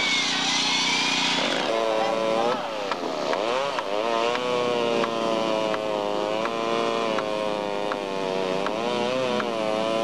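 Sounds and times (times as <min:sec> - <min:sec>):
engine running: 0:00.0 - 0:10.0.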